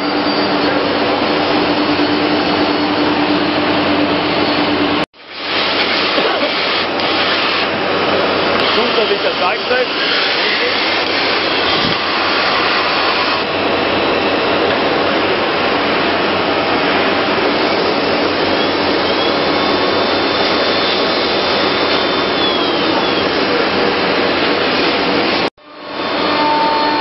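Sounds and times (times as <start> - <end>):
machine dust extraction rushing: 0.0 - 25.5.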